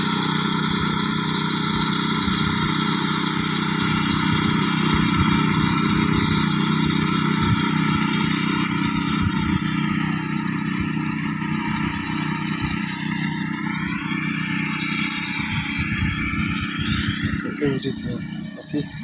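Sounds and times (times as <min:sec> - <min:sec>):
harvester engine rumbling: 0:00.0 - 0:19.0.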